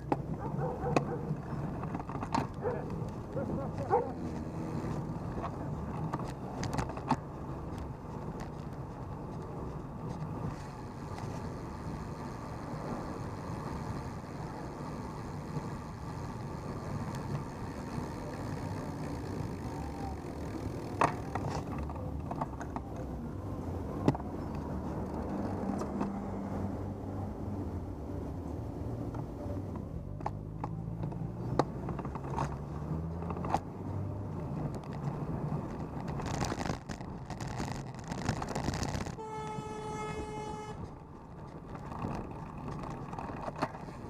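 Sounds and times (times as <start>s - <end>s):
traffic rumble: 0.0s - 44.0s.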